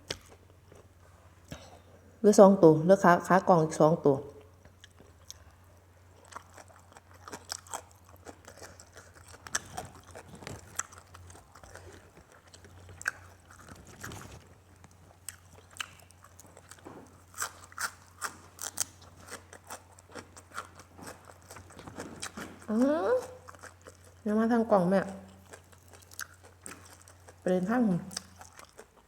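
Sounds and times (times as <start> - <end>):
person chewing crunchy food: 0.0 - 1.8, 4.5 - 24.3, 25.3 - 27.5, 28.1 - 29.0.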